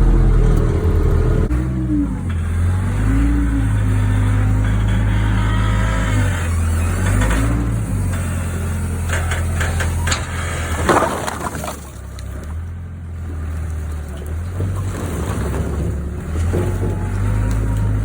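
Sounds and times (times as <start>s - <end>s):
diesel engine running: 0.0s - 18.0s
rushing clatter: 2.3s - 18.0s.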